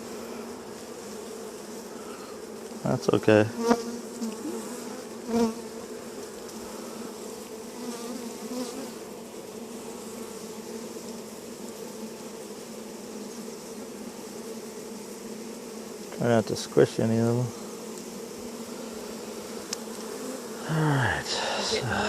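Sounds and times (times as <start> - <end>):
bee passing close: 0.0 - 22.0
bees buzzing: 0.0 - 22.0.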